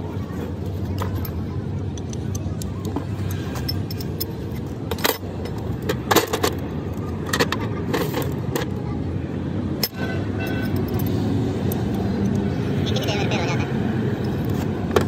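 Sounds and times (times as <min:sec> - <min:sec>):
low rumble of engines: 0:00.0 - 0:15.0.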